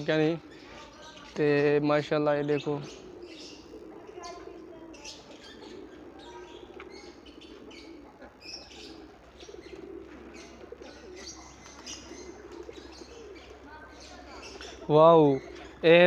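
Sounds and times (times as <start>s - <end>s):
pigeons cooing: 0.0s - 16.0s
small birds chirping: 0.0s - 16.0s.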